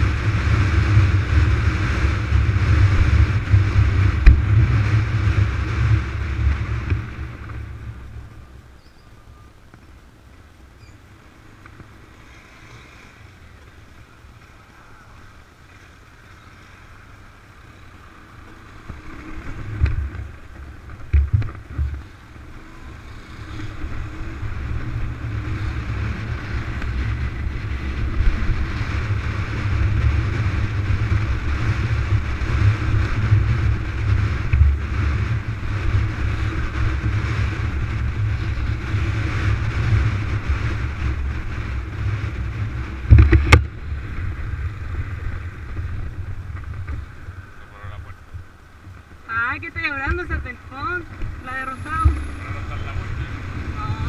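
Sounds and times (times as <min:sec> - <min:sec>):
motorcycle engine running: 0:00.0 - 0:09.9, 0:16.4 - 0:54.0
wind rushing over microphone: 0:00.0 - 0:54.0.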